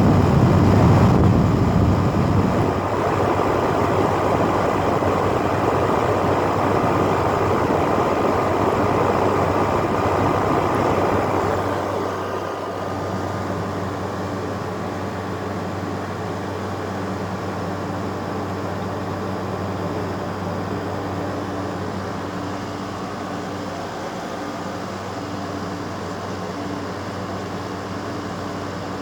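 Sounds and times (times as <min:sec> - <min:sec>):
air conditioner hum: 0:00.0 - 0:29.0
fan airflow whoosh: 0:00.0 - 0:29.0.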